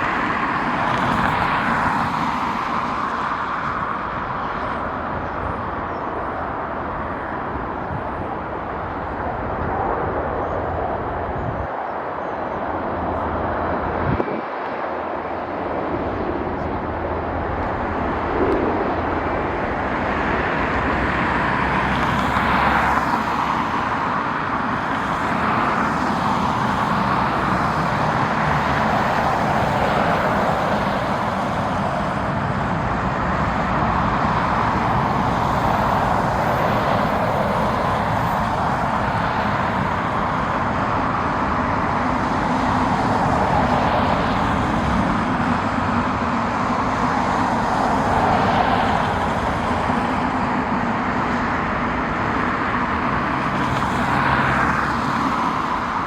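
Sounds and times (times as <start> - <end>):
rushing engine noise: 0.0 - 56.0.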